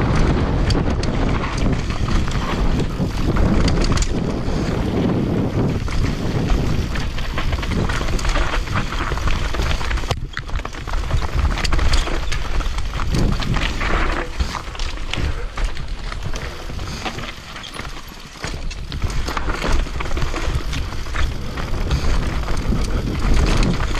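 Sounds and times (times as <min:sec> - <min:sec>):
wind on microphone: 0:00.0 - 0:17.3, 0:18.4 - 0:23.9
bike tyres grinding over ground: 0:00.0 - 0:23.9.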